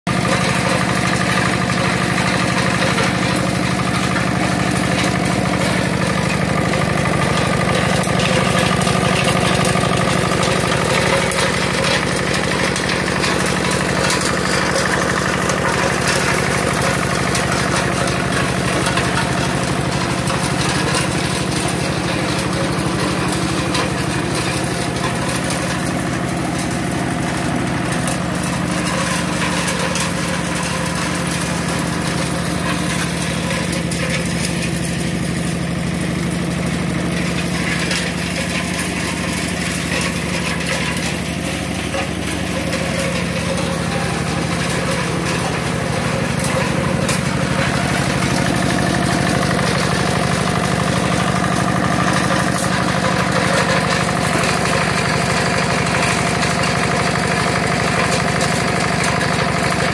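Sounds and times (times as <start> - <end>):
charcoal lumps crackling and rattling: 0.1 - 59.9.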